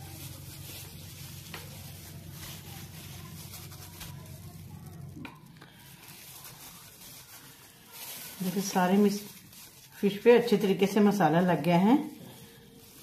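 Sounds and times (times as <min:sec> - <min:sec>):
gloved hand squishing and rustling: 0:00.0 - 0:13.0.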